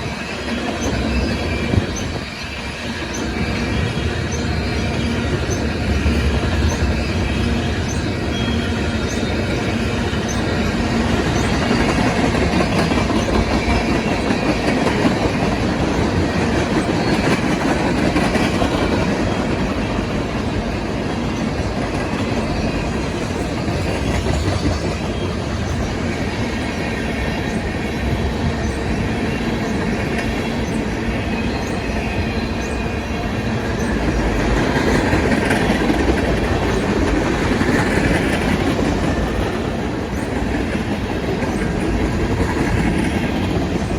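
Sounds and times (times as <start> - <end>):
freight train wheels on rails: 0.0 - 43.9.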